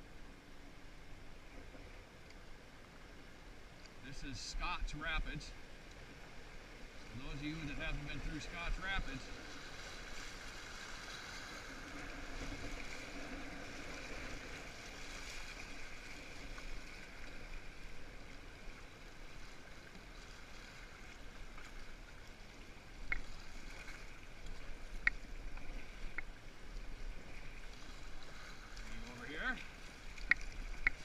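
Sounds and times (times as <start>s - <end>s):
muffled river rapids rushing: 2.1s - 31.0s.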